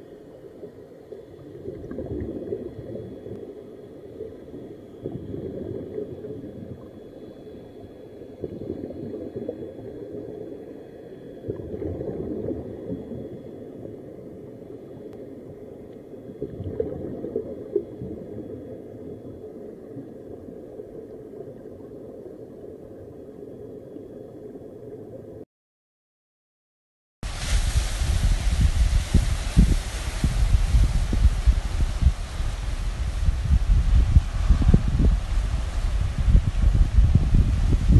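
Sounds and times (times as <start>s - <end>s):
underwater air bubbling: 0.0s - 25.4s, 27.2s - 37.9s.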